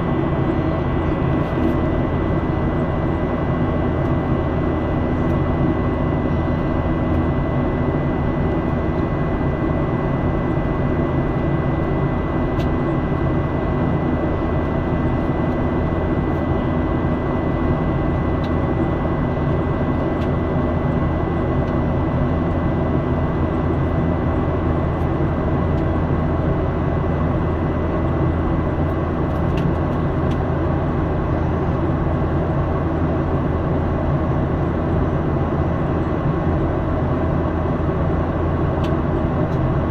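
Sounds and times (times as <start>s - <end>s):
jet engine and airflow roar: 0.0s - 39.9s.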